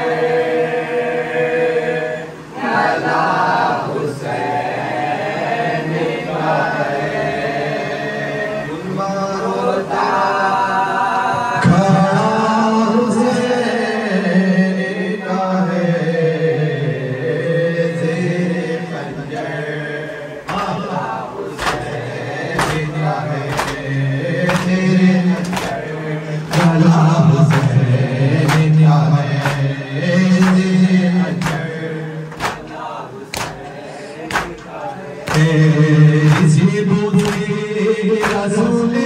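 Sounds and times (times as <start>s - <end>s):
men chanting in unison: 0.0s - 39.0s.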